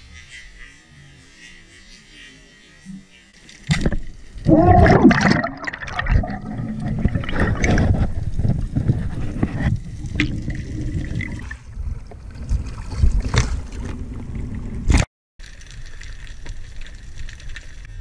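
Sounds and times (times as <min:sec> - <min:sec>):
water sloshing and bubbling: 0:03.4 - 0:17.9.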